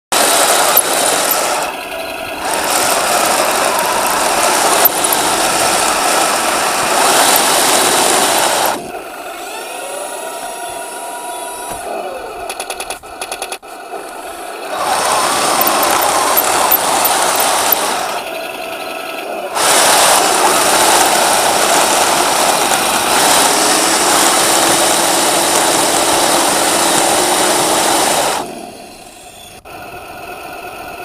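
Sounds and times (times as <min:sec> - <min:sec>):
rapid clicks: 0:00.1 - 0:31.0
sliding tones: 0:00.1 - 0:31.0
toy tank motors and tracks: 0:00.1 - 0:31.0.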